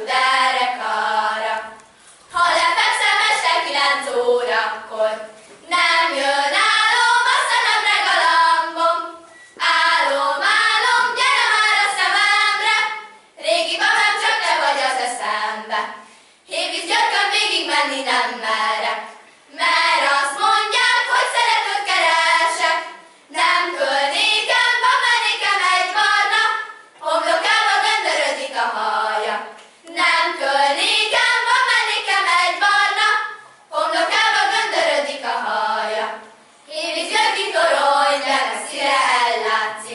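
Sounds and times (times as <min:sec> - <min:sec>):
girls singing unaccompanied: 0:00.0 - 0:39.9.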